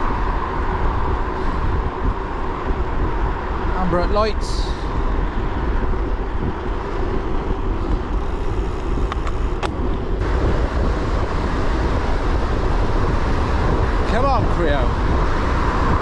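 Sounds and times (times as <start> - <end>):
busy road traffic: 0.0 - 16.0
wind rumbling on microphone: 0.0 - 16.0.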